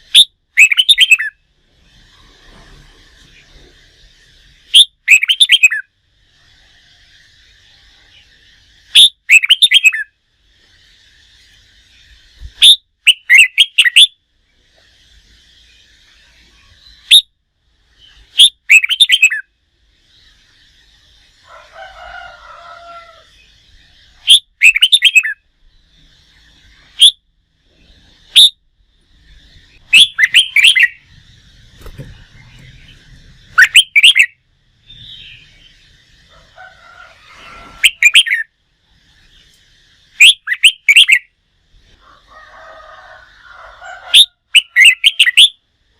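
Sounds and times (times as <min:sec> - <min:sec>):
faint bird twittering: 0:00.0 - 0:45.6.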